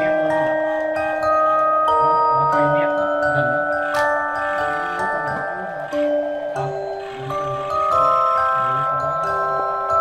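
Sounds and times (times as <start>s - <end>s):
glockenspiel melody: 0.0s - 10.0s.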